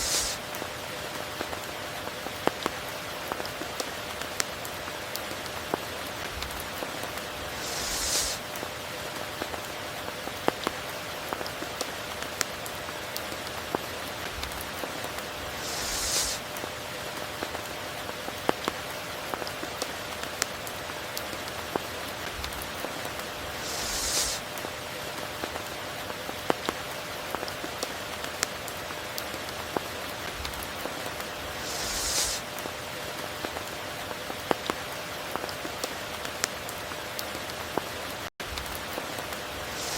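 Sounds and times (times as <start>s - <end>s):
raindrops ticking on surfaces: 0.0s - 39.9s
steady rain hiss: 0.0s - 39.9s.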